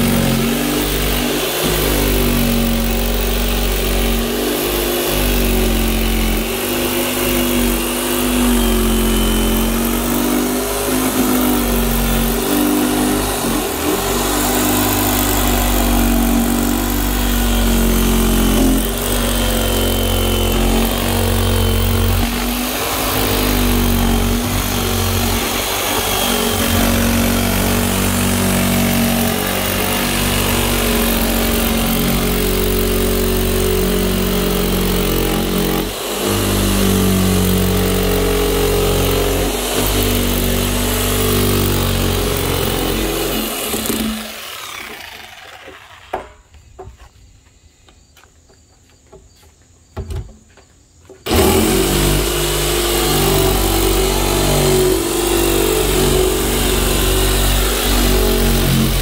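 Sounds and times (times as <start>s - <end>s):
jigsaw cutting plastic: 0.0s - 46.4s, 51.2s - 59.0s.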